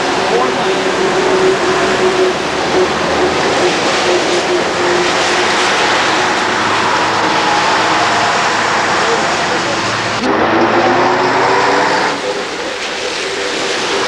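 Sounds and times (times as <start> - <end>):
buses driving past: 0.0 - 14.0
road noise: 0.0 - 14.0.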